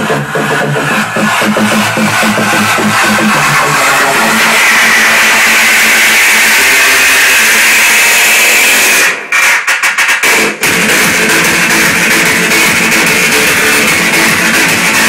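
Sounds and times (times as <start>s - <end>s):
loud dance music over speakers: 0.0s - 15.0s.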